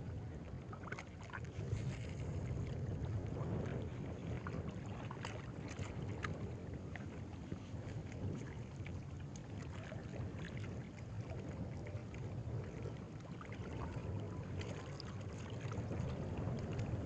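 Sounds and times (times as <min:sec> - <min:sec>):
small waves lapping: 0:00.0 - 0:17.0
wind rumble on microphone: 0:00.0 - 0:17.0.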